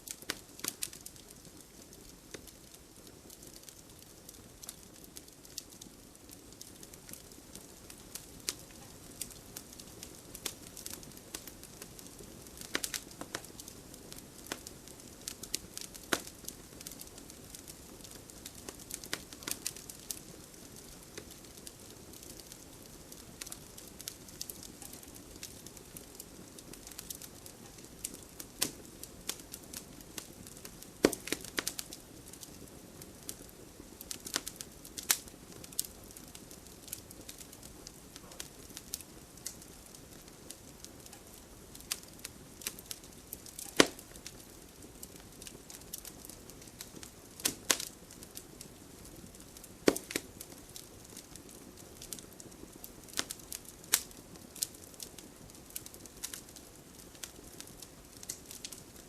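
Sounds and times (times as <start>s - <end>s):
burning logs crackling and popping: 0.0s - 59.0s.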